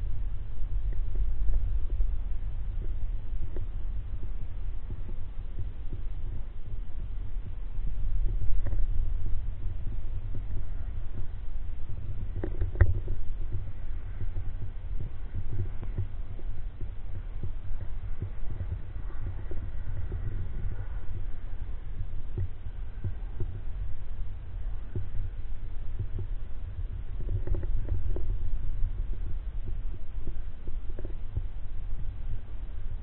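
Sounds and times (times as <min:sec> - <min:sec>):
microphone handling rumble: 0:00.0 - 0:33.0.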